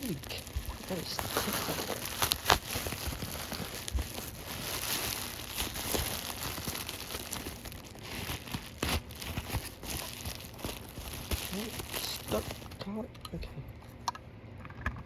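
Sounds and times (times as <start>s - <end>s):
bubble wrap crinkling: 0.0s - 13.5s.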